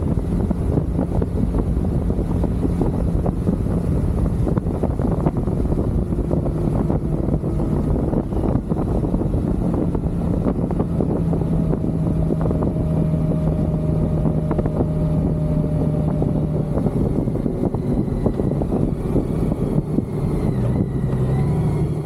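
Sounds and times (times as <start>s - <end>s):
motorcycle engine running: 0.0s - 22.0s
rushing wind: 0.0s - 22.0s.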